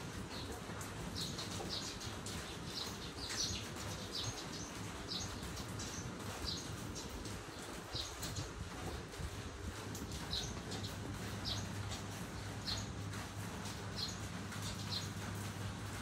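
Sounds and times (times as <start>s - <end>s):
low outdoor background hum: 0.0s - 16.0s
small birds chirping: 0.1s - 16.0s.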